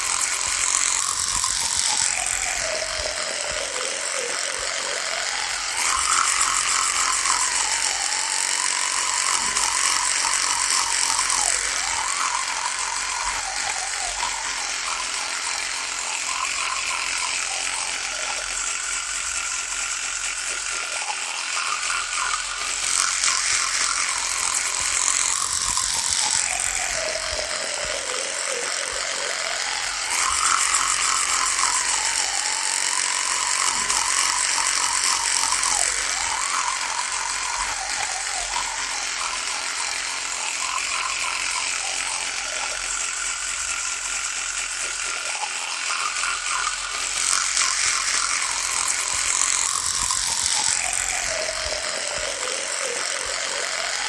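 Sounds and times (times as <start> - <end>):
electric toothbrush buzzing: 0.0 - 54.0.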